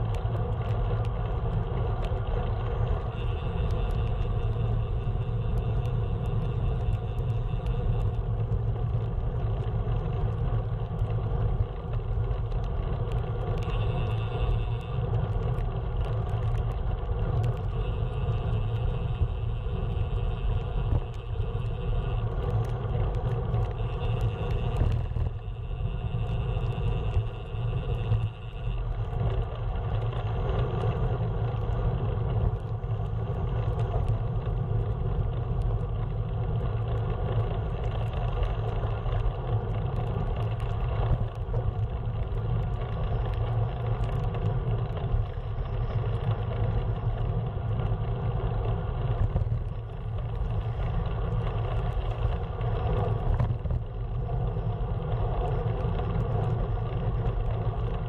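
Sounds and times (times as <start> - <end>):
low vehicle rumble: 0.0 - 58.0.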